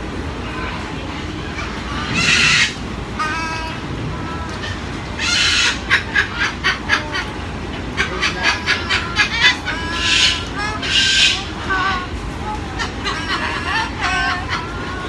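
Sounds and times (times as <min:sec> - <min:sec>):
cockatoo screeching and calling: 0:01.6 - 0:07.3, 0:07.9 - 0:15.0.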